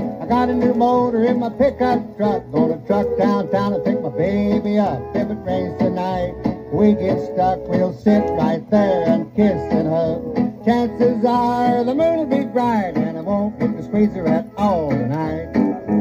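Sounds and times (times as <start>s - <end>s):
guitar lead with bending notes: 0.0s - 16.0s
old dance-band record: 0.0s - 16.0s.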